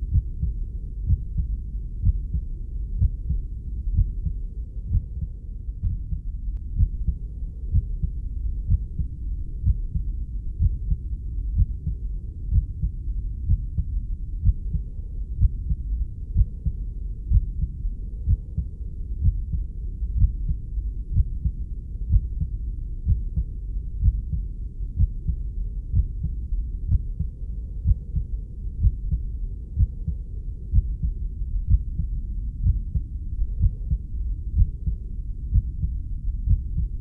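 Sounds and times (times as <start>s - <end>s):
heartbeat thumps: 0.0s - 37.0s
steady low rumble: 0.0s - 37.0s.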